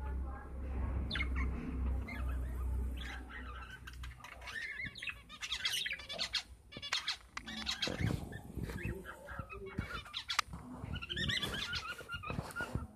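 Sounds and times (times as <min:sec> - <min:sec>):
budgerigars chattering: 0:01.0 - 0:12.9.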